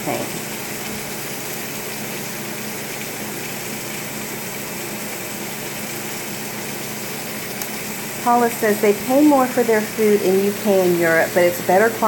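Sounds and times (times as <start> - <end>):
steak sizzling in butter: 0.0 - 12.0.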